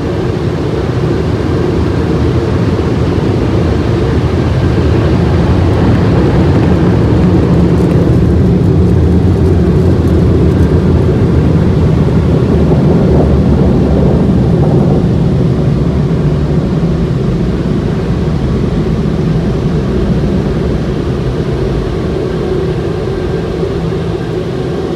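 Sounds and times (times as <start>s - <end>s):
car wash machinery rumbling: 0.0s - 24.9s.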